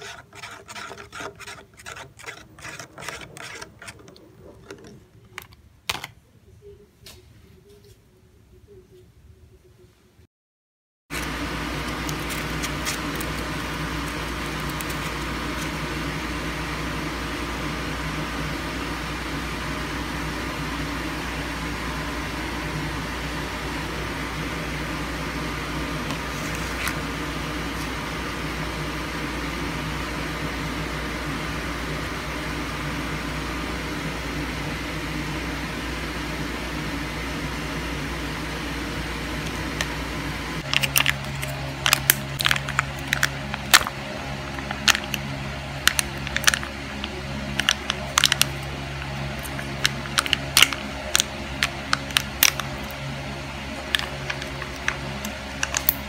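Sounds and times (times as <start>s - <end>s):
machine hum and hiss: 11.1s - 56.0s.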